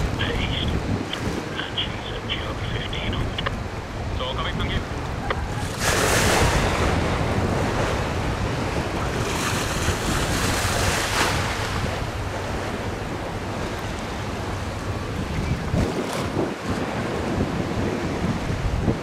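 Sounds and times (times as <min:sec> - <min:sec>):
choppy river water rushing: 0:00.0 - 0:19.0
wind buffeting microphone: 0:00.0 - 0:19.0.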